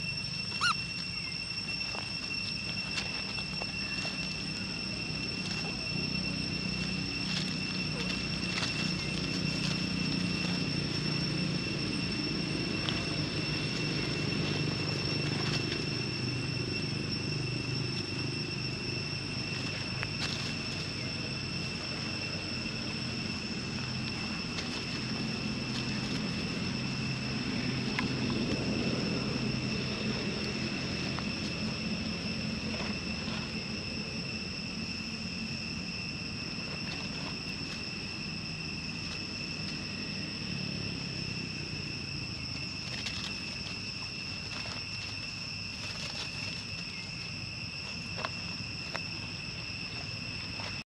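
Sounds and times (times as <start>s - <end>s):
high-pitched insect drone: 0.0s - 50.8s.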